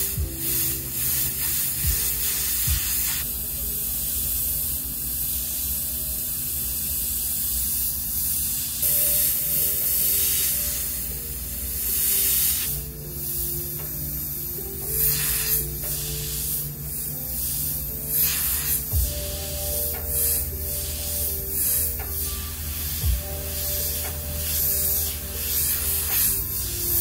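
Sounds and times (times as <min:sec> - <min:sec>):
airbrush hissing: 0:00.0 - 0:27.0.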